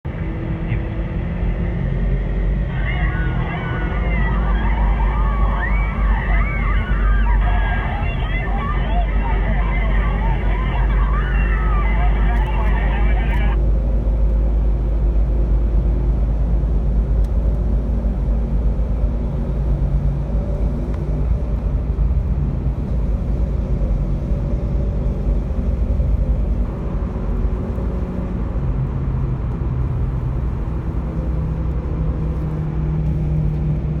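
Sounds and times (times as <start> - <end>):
low road noise rumble: 0.0 - 34.0.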